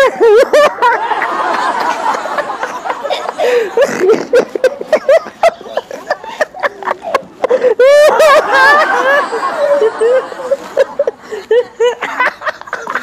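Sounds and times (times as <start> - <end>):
people laughing: 0.0 - 13.0
girl giggling: 2.3 - 13.0.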